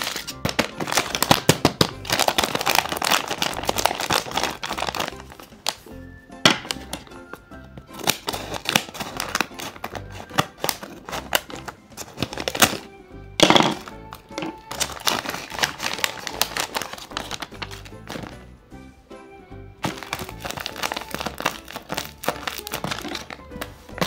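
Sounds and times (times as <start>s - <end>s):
paper crinkling and tapping: 0.0s - 5.9s, 6.5s - 18.5s, 19.8s - 24.0s
background music: 0.0s - 24.0s.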